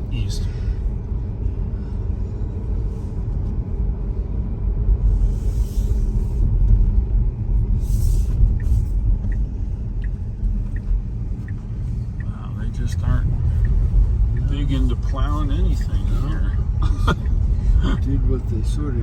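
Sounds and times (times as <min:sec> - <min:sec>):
road and tyre rumble: 0:00.0 - 0:19.0.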